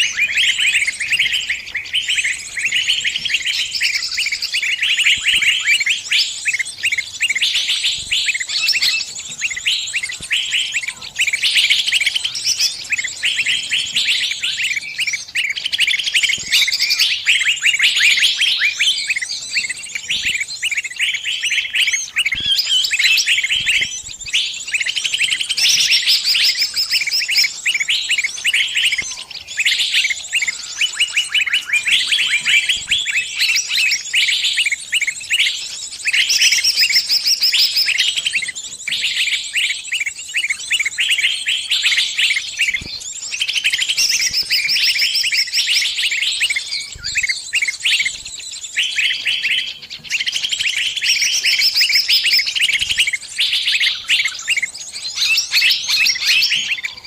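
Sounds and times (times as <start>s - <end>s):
small bird chirping rapidly: 0.0s - 57.0s.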